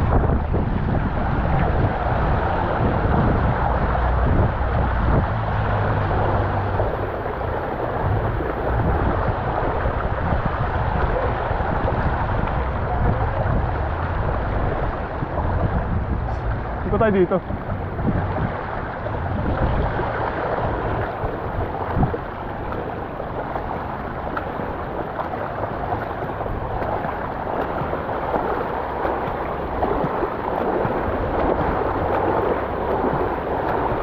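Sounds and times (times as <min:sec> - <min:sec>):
bicycle splashing through water: 0:00.0 - 0:34.0.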